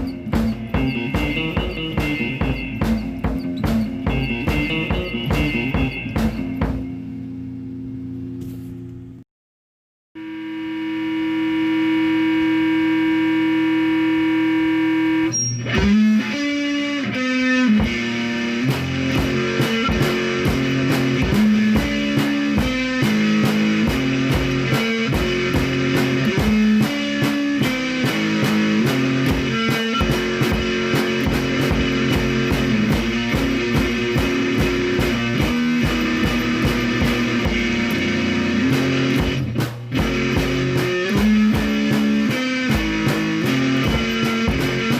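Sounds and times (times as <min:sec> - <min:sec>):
rock guitar music: 0:00.0 - 0:08.5, 0:10.3 - 0:44.9.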